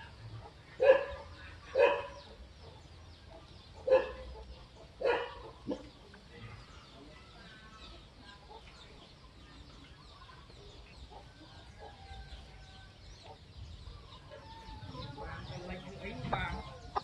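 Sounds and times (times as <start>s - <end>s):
chickens clucking: 0.0s - 17.0s
small birds chirping: 0.0s - 17.0s.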